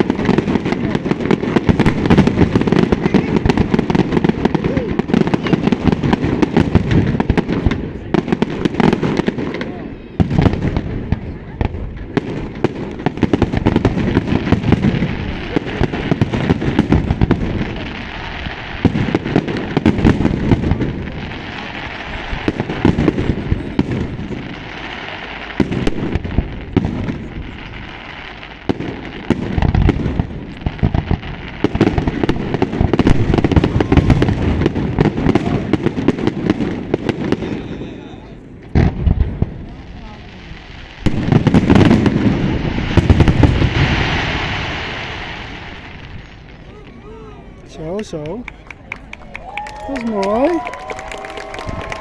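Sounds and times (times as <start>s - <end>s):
firework shells booming: 0.0s - 47.0s
fireworks crackling: 0.0s - 52.0s.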